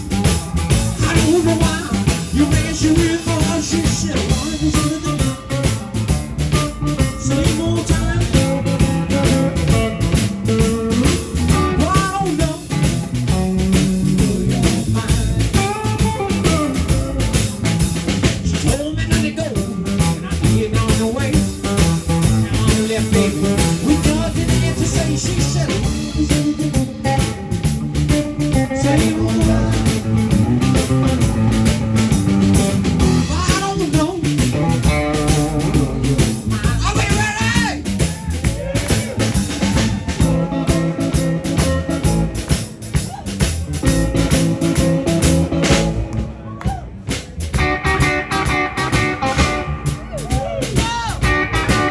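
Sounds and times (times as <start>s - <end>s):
live blues band playing: 0.0s - 51.9s.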